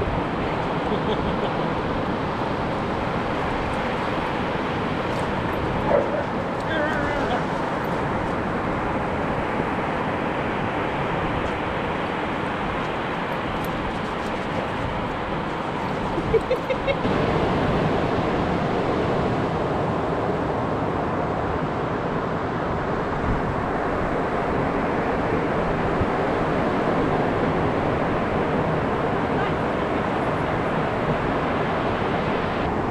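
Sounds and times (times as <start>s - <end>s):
ocean surf: 0.0s - 32.9s
wind: 0.0s - 32.9s.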